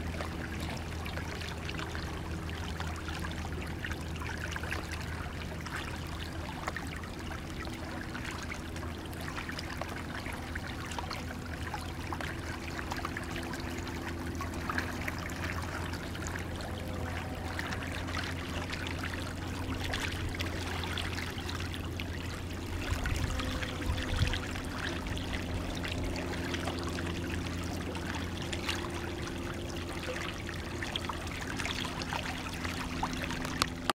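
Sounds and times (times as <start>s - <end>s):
creek water bubbling: 0.0s - 33.9s
faint low hum: 0.0s - 33.9s.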